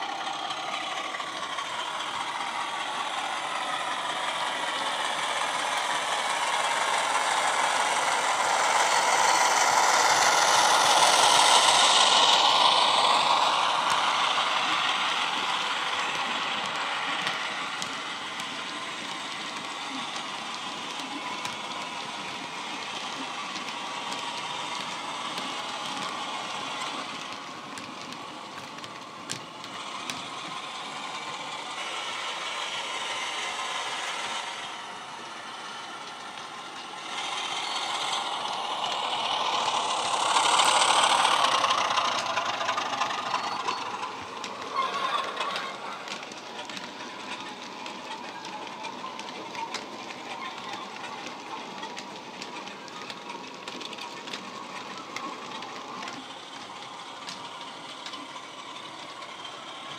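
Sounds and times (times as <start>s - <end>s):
model wagon wheels rattling: 0.0s - 59.9s
recorded diesel engine sound: 0.0s - 59.9s.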